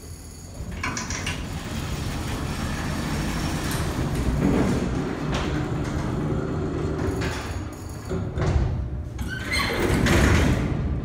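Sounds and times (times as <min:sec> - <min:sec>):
elevator machinery rumbling: 0:00.5 - 0:11.0.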